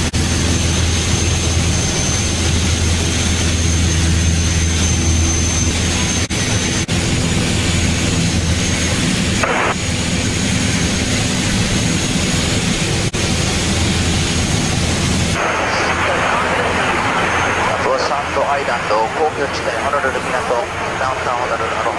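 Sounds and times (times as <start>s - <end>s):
light aircraft engine and propeller: 0.0s - 21.9s.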